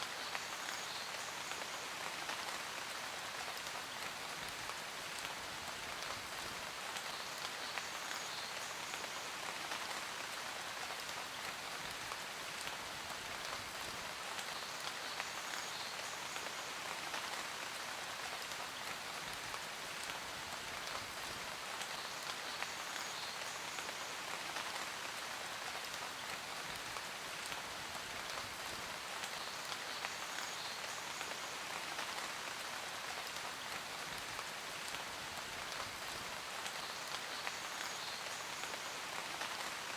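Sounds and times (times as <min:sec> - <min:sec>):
rain pattering on surface: 0:00.0 - 0:39.9.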